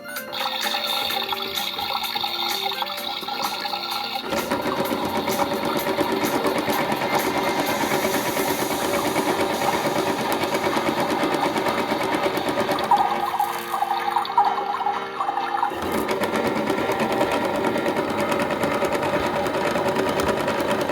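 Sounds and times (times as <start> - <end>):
toy motor whirring and rattling: 0.2 - 14.6, 15.7 - 20.9.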